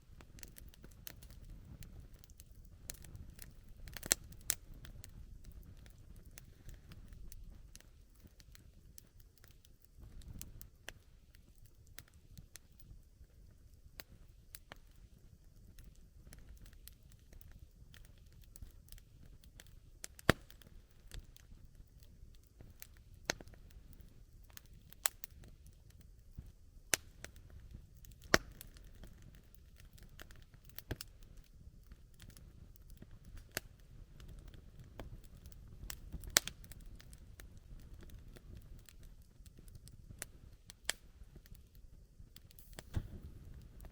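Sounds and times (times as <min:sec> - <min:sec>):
campfire crackling and popping: 0:00.0 - 0:43.9
soft rush of flame: 0:00.0 - 0:43.9.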